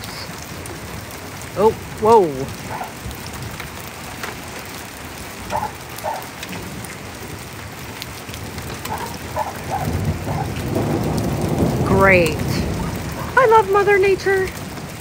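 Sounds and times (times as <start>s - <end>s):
heavy rain hitting surfaces: 0.0s - 15.0s
low rumble of thunder: 0.0s - 15.0s.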